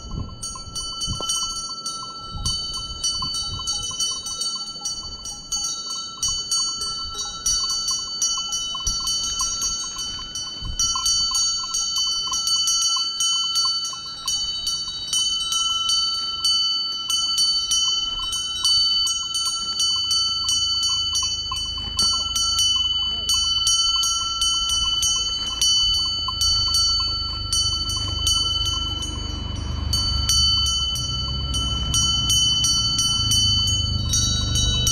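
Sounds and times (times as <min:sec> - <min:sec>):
cowbell clanking: 0:00.0 - 0:34.9.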